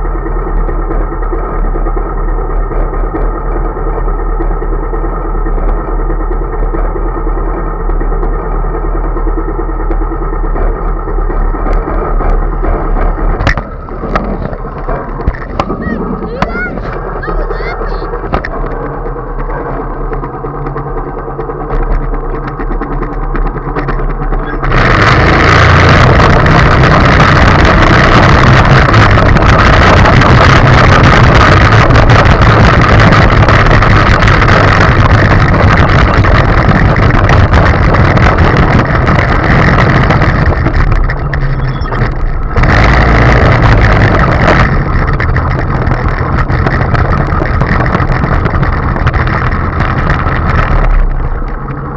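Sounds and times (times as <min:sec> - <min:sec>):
go-kart engine revving: 0:00.0 - 0:51.9.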